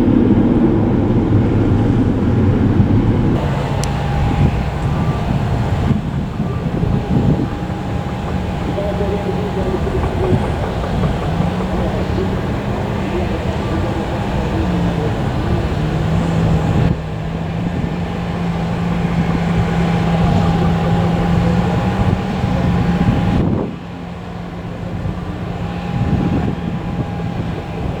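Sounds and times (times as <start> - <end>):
jet engines humming and whining: 0.0 - 28.0.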